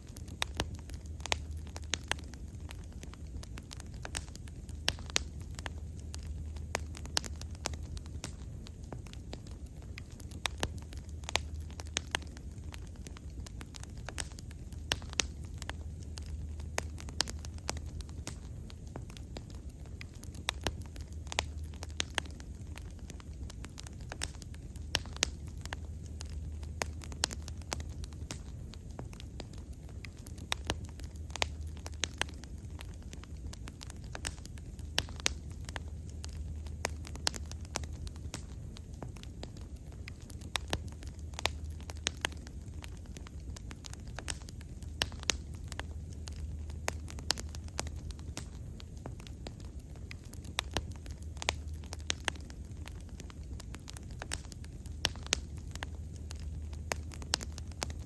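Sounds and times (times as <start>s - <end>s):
bonfire crackling and popping: 0.0s - 58.0s
low steady rumble: 0.0s - 58.0s.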